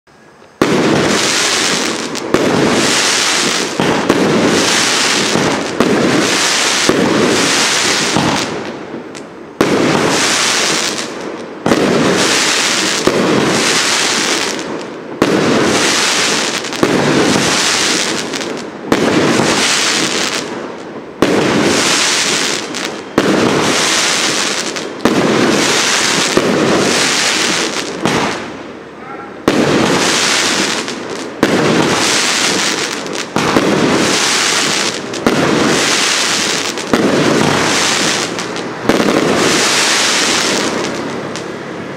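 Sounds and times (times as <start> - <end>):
fireworks cake firing bangs: 0.6 - 20.6, 21.2 - 28.5, 29.4 - 41.4.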